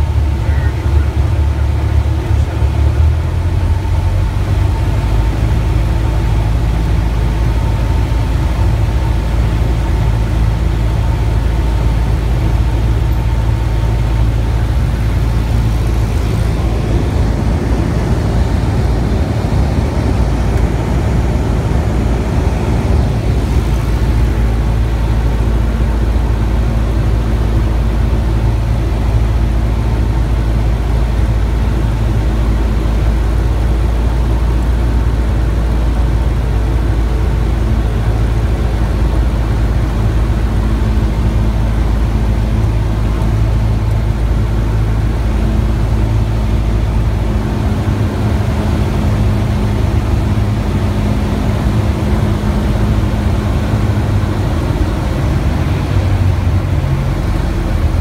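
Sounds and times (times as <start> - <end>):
propeller aircraft engine droning: 0.0 - 58.0.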